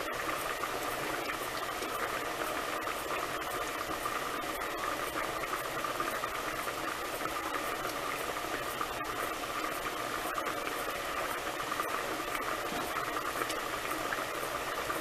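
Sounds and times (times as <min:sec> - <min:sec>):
water boiling and bubbling: 0:00.0 - 0:15.0.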